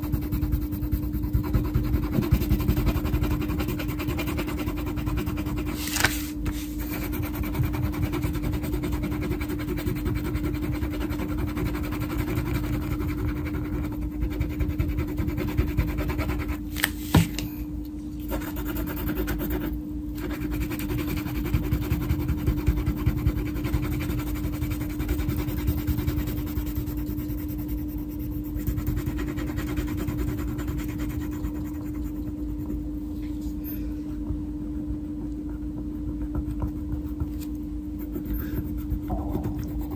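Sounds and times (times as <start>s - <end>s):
crayon scribbling on paper: 0.0s - 16.7s, 18.3s - 32.9s, 38.0s - 39.9s
steady low hum: 0.0s - 39.9s.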